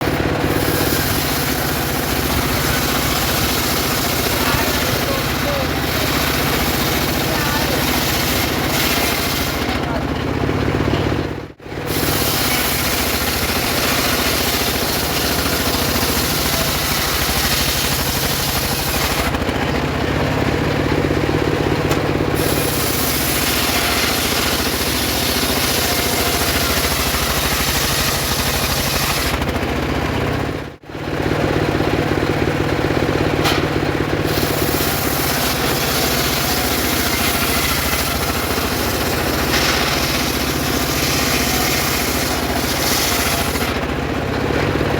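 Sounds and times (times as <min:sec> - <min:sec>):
circular sawmill cutting wood: 0:00.0 - 0:44.9.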